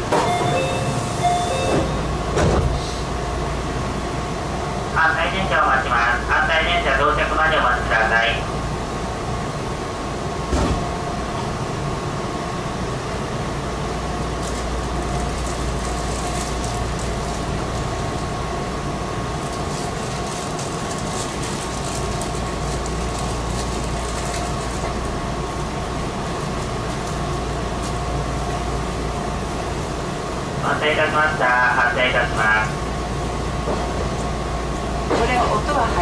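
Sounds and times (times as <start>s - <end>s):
electric train equipment hum: 0.0s - 36.0s.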